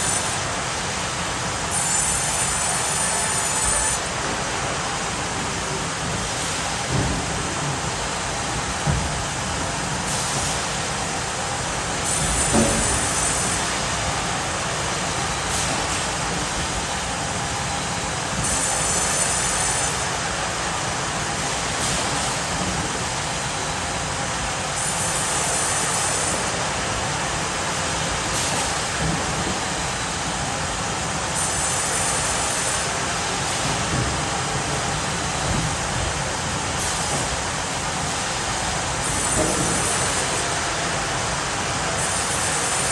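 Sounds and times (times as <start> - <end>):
sawmill machinery running: 0.0 - 42.9.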